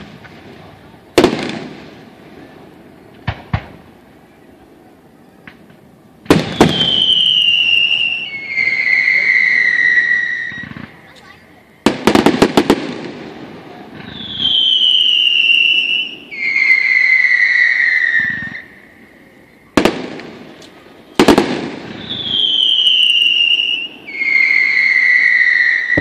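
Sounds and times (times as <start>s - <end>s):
fireworks bangs: 0.0s - 26.0s
whistling fireworks: 0.0s - 26.0s.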